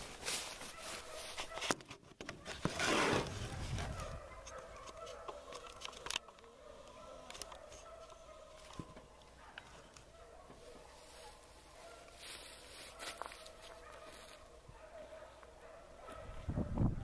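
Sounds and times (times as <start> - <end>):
distant dogs baying: 0.6 - 17.0.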